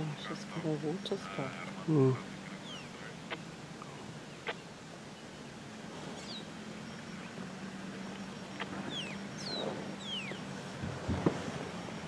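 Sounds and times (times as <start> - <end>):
engine idling hum: 0.0 - 12.0
wild birds calling: 0.0 - 12.0.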